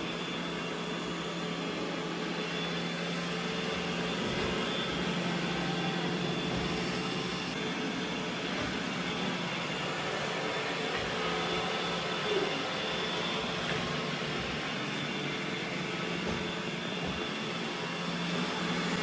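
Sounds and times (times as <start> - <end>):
vacuum cleaner motor running: 0.0 - 19.0.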